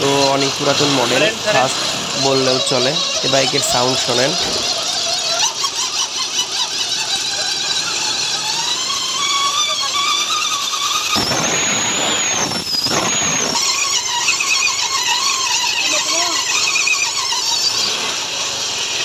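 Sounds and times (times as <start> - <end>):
wavering squealing whine: 0.0 - 19.0.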